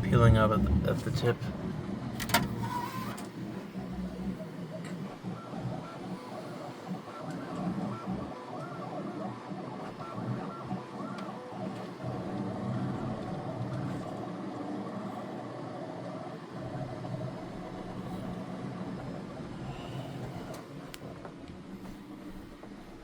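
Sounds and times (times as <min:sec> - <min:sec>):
three d printer motors whirring: 0:00.0 - 0:23.0.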